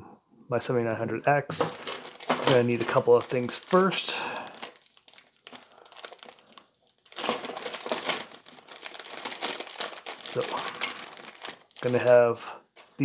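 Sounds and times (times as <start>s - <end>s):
plastic bag crinkling: 1.6s - 13.0s.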